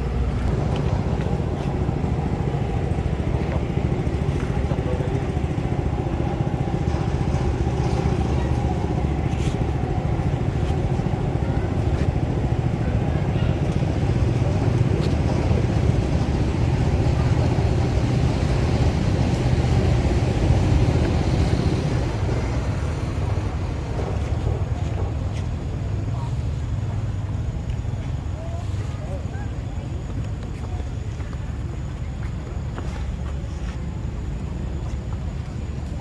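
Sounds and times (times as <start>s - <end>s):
engine droning: 0.0s - 36.0s.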